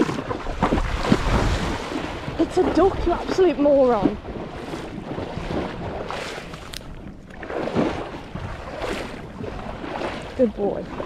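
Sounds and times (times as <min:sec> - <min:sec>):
wind noise on microphone: 0:00.0 - 0:10.1
horse splashing through water: 0:00.0 - 0:11.0.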